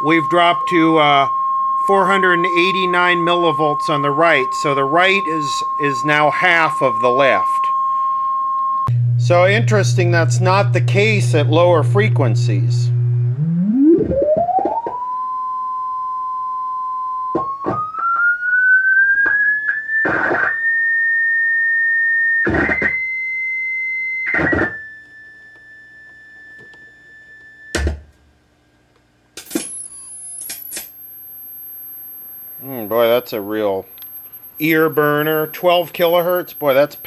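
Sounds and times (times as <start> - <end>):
piercing high tone: 0.0 - 27.8, 29.5 - 37.0
sine wave test tone: 0.0 - 28.8, 29.4 - 37.0.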